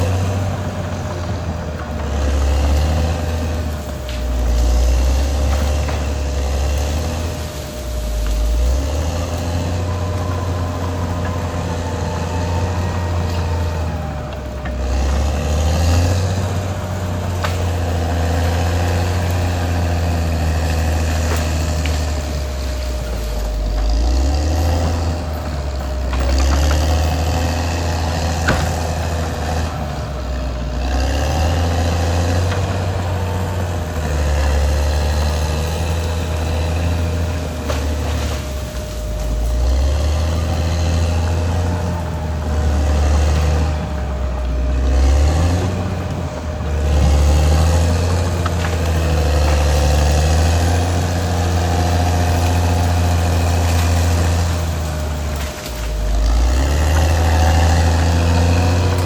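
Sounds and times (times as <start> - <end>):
bulldozer diesel engine working: 0.0 - 59.0
steady whine: 0.0 - 59.0.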